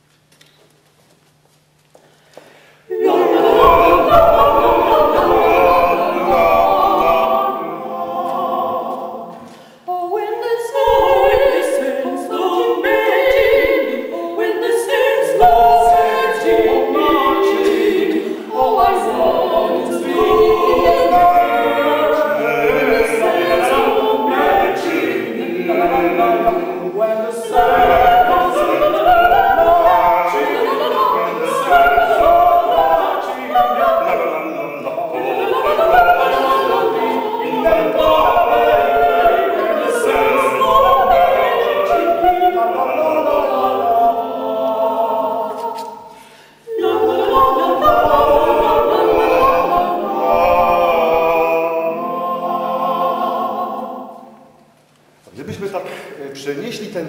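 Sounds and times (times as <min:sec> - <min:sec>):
a cappella group singing: 0:02.8 - 0:54.8.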